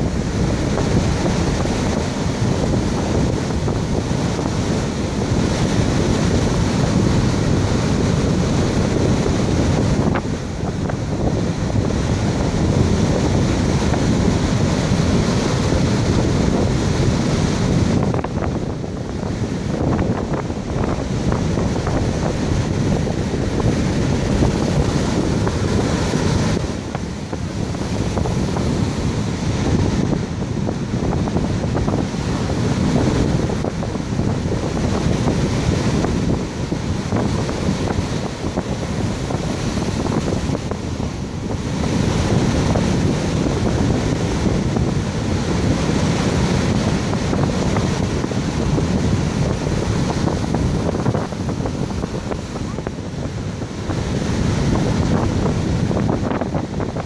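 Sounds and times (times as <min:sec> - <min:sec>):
surf breaking on beach: 0:00.0 - 0:57.0
wind buffeting microphone: 0:00.0 - 0:57.0.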